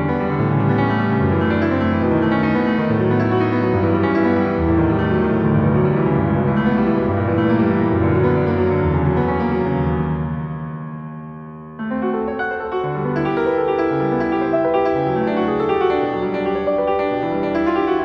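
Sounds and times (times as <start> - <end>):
slow tender piano music: 0.0 - 18.0.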